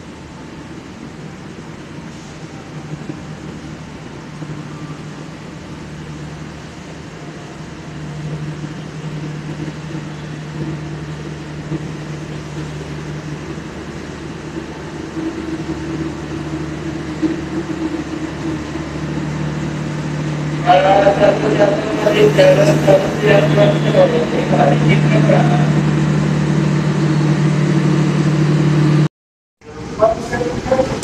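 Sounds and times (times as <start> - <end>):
diesel generator hum: 0.0 - 31.0
train coaches rolling past: 0.0 - 31.0.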